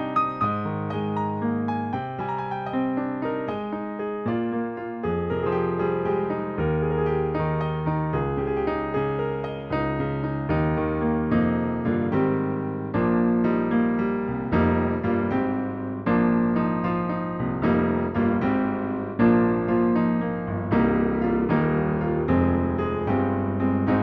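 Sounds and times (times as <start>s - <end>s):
digital piano chords: 0.0s - 24.0s.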